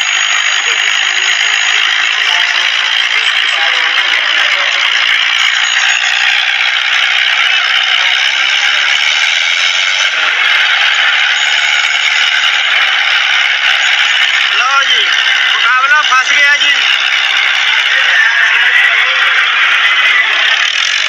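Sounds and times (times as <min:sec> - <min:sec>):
tractors running flat out: 0:00.0 - 0:21.0.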